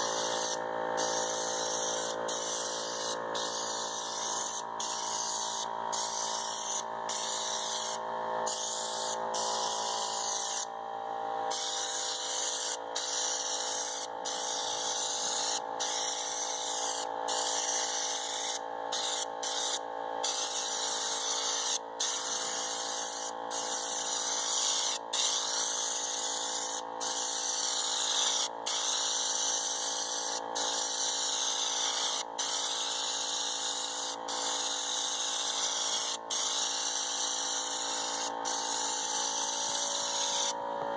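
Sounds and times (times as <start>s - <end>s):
spray gun hissing: 0.0s - 10.6s, 11.5s - 40.5s.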